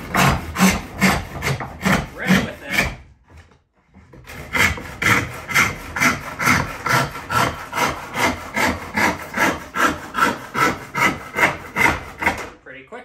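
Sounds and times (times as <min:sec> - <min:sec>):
handsaw ripping a board: 0:00.0 - 0:03.0, 0:04.2 - 0:12.5.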